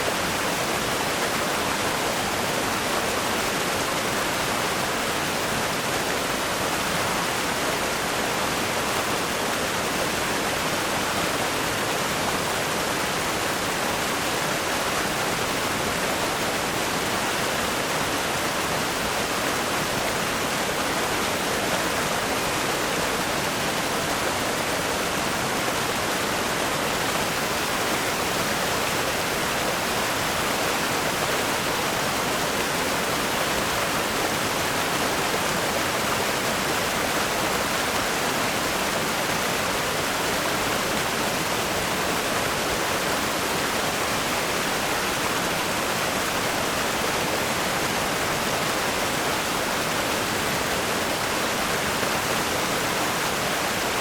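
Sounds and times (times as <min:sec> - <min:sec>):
river rapids rushing over rocks: 0:00.0 - 0:54.0.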